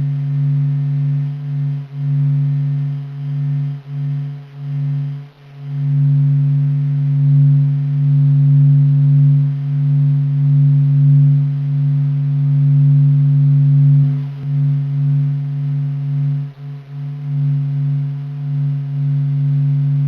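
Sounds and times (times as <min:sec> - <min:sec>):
low droning hum: 0:00.0 - 0:20.0.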